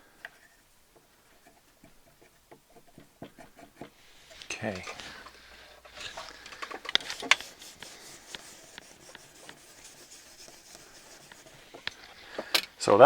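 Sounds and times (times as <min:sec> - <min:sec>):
light rubbing of small objects: 0:00.4 - 0:12.9.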